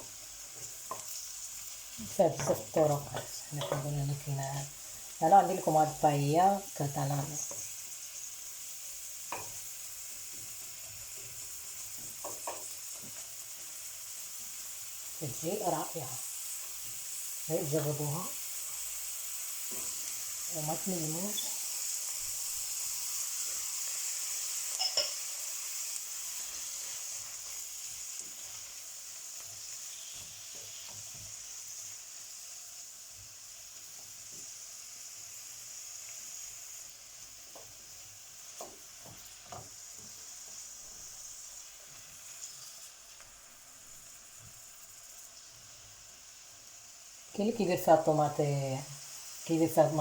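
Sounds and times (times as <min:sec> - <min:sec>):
onion sizzling in oil: 0:00.0 - 0:50.0.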